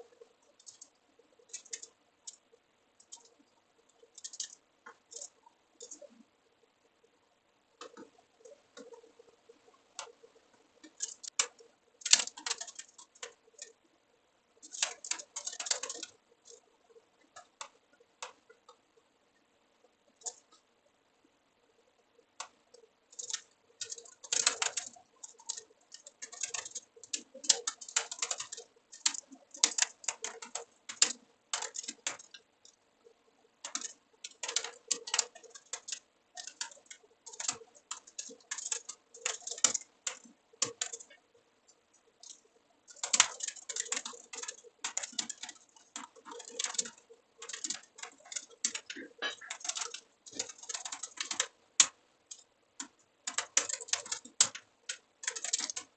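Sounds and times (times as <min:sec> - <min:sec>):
typing on computer keyboard: 0:00.0 - 0:06.3, 0:07.8 - 0:13.9, 0:14.6 - 0:18.8, 0:20.1 - 0:20.6, 0:22.2 - 0:55.9.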